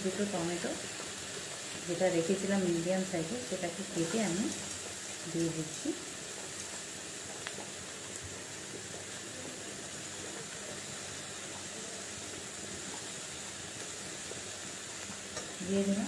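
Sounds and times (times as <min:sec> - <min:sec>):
food frying with soft hiss: 0:00.0 - 0:16.0.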